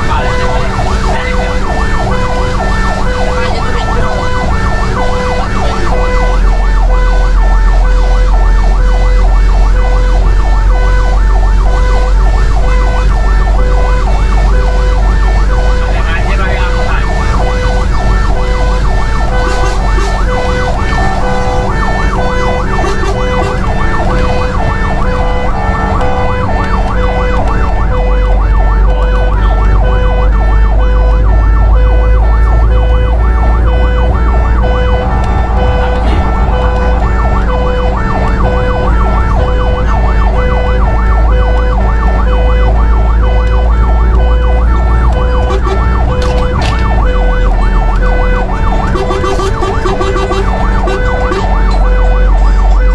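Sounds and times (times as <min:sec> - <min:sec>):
fire engine siren: 0:00.0 - 0:52.9
truck engine rumble: 0:00.0 - 0:52.9
tyres on road: 0:00.0 - 0:52.9.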